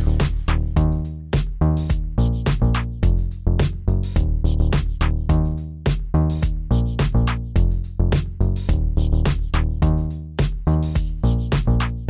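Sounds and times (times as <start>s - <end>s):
electronic music with beat and bass: 0.0s - 12.0s.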